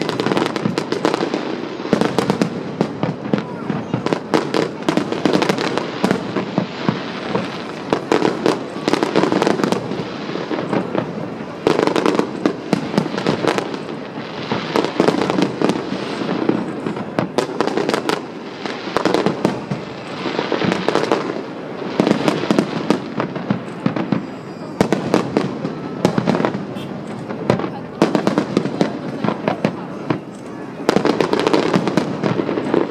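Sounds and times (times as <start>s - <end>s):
fireworks bangs: 0.0s - 32.9s
fireworks crackling: 0.0s - 32.9s.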